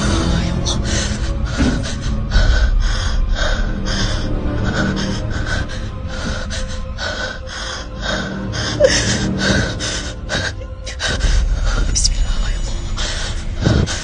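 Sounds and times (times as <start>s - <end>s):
steady low rumble: 0.1s - 14.0s.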